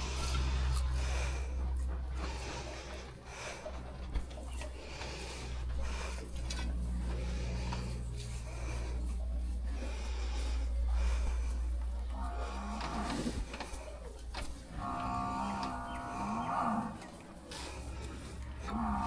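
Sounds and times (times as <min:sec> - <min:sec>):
water buffalo lowing: 0:00.0 - 0:19.0.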